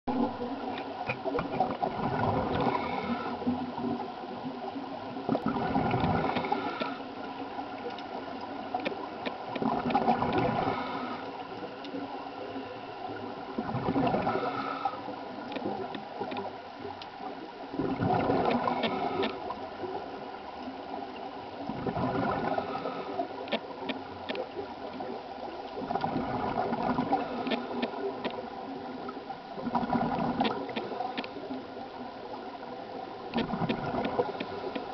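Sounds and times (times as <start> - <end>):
exhaled bubbles gurgling underwater: 0.1 - 34.9.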